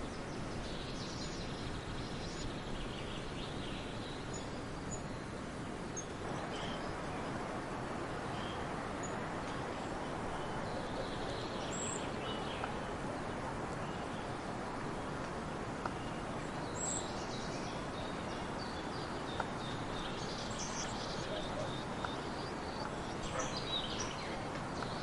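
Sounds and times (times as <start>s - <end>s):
small birds chirping: 0.0s - 25.0s
steady rushing noise: 1.4s - 25.0s.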